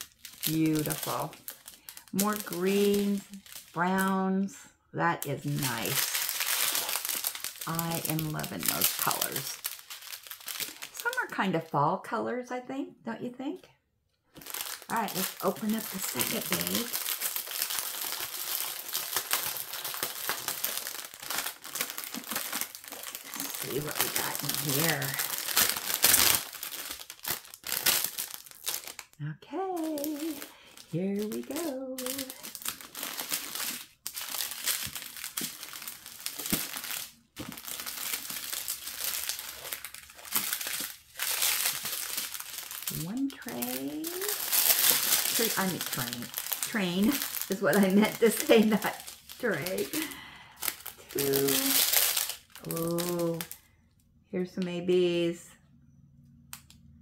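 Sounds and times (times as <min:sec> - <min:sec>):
plastic packaging crinkling: 0:00.0 - 0:04.4, 0:05.2 - 0:11.7, 0:14.3 - 0:53.7.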